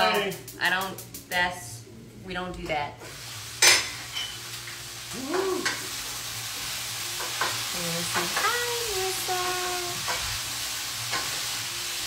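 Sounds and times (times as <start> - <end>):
food sizzling in a pan: 0.0 - 2.0, 2.9 - 12.0.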